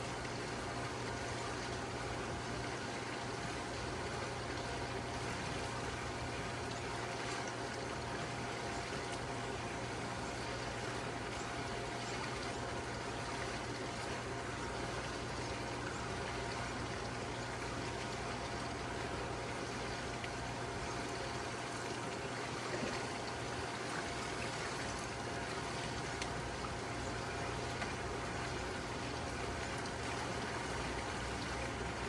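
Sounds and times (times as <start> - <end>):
constant low hum: 0.0 - 32.0
running water: 0.0 - 32.0.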